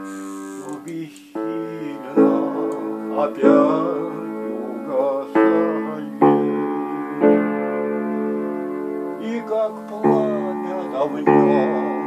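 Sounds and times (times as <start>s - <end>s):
person singing: 0.0s - 7.7s, 9.2s - 12.0s
piano-like keyboard chords: 0.0s - 12.0s.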